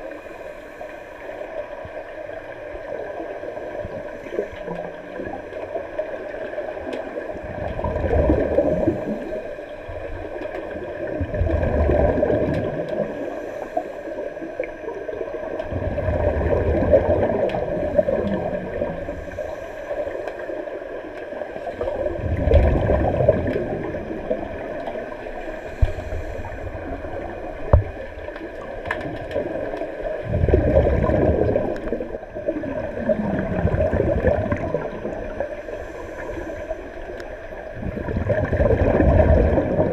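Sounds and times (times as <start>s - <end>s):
faint steady hum: 0.0s - 39.9s
underwater bubbles gurgling: 0.0s - 39.9s.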